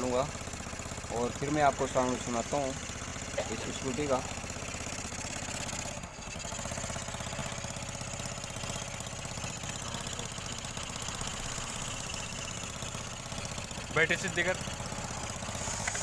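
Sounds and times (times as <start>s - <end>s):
scooter engine idling: 0.0s - 16.0s.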